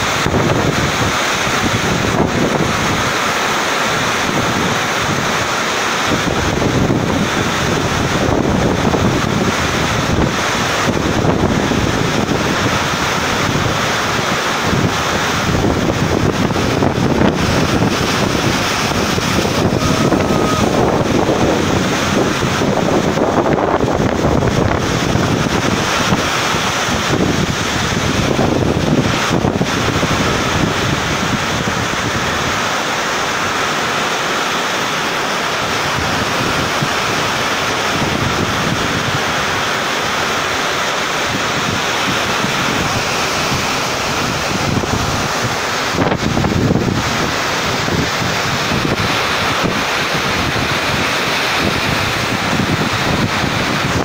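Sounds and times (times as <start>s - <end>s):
heavy rain pouring: 0.0s - 54.0s
wind gusts on microphone: 0.0s - 54.0s.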